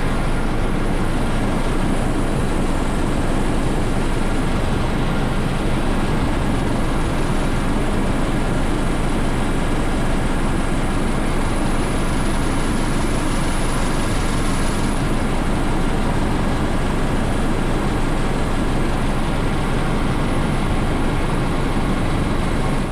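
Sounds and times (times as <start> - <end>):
helicopter rotor and engine: 0.0 - 22.9.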